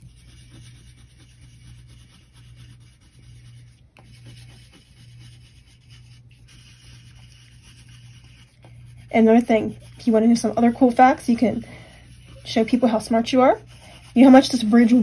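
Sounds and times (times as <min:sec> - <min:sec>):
crayon rubbing on paper: 0:00.0 - 0:15.0.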